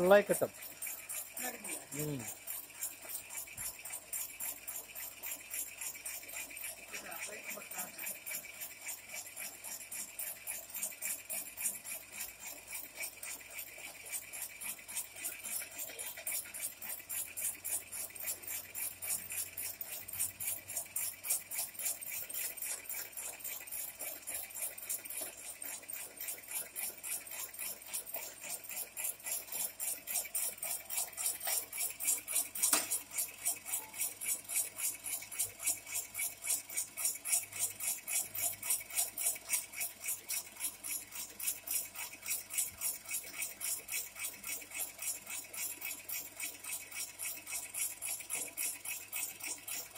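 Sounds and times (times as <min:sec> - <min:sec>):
slicing machine blades clattering: 0:00.0 - 0:49.9.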